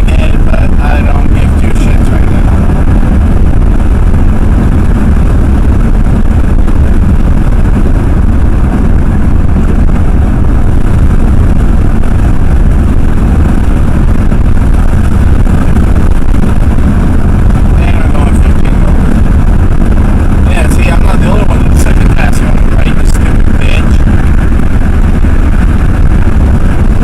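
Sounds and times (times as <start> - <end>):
truck engine and road noise: 0.0 - 27.0.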